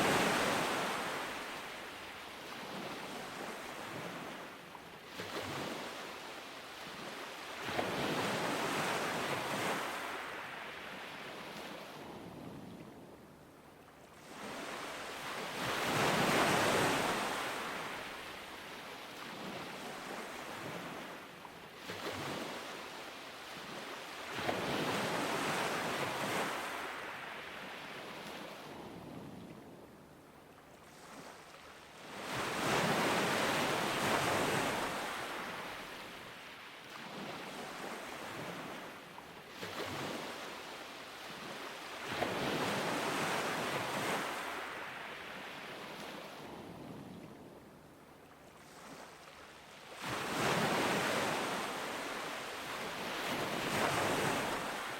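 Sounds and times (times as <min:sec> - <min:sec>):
ocean waves breaking on beach: 0:00.0 - 0:29.8, 0:30.6 - 0:54.9.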